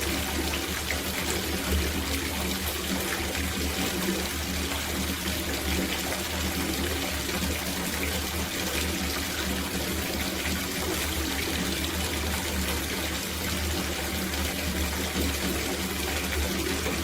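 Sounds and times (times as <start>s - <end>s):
tap water gushing into bathtub: 0.0s - 17.0s.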